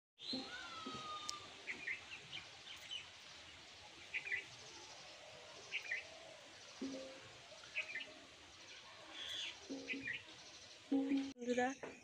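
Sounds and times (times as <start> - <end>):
birds calling: 0.2 - 12.0
outdoor background noise: 0.2 - 12.0.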